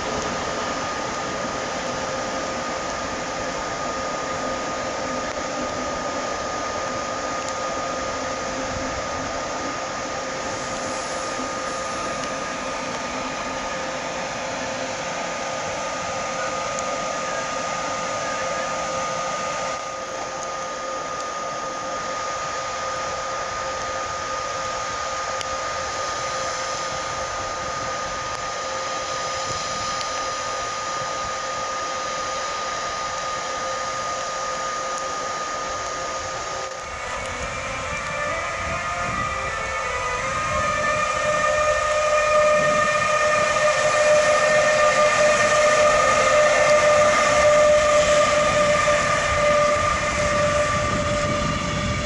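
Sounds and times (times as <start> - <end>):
constant whine: 0.0 - 52.0
railway machinery whirring hiss: 0.0 - 52.0.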